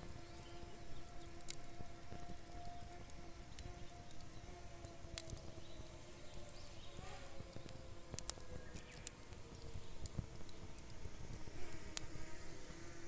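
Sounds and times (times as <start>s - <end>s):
campfire crackling and popping: 0.0s - 13.0s
faint steady hum: 0.0s - 13.0s.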